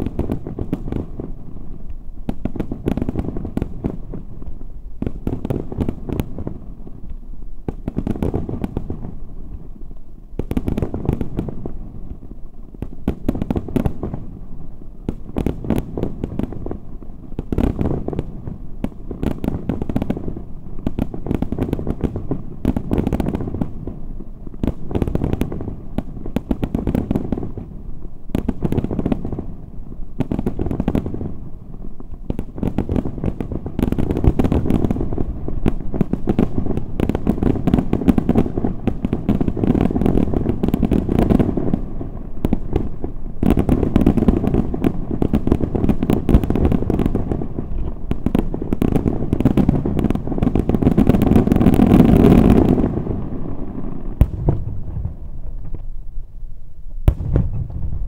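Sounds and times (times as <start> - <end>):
fireworks bangs and cracks: 0.0 - 56.3, 57.0 - 58.0.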